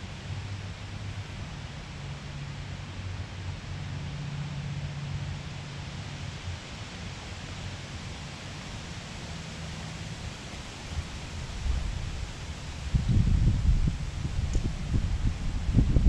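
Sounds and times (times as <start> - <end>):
wind in trees: 0.0 - 16.0.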